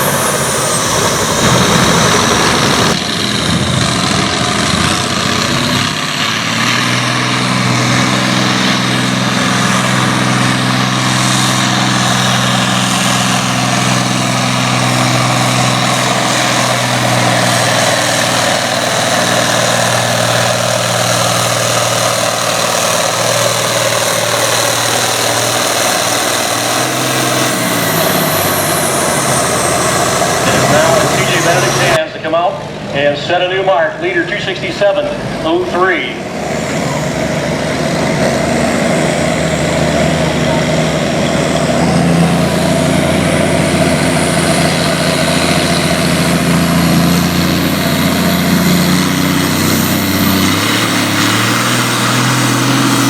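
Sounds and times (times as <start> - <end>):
tractor engine running hard: 0.0 - 53.0.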